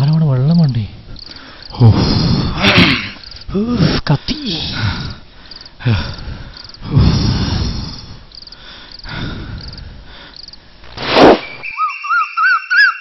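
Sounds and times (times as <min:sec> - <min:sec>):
crickets chirping: 0:00.0 - 0:12.9.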